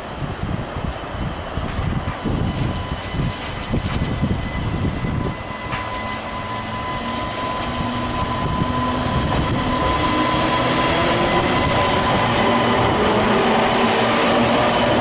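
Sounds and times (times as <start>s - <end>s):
diesel train approaching: 0.0s - 15.0s
thin whine: 1.2s - 15.0s.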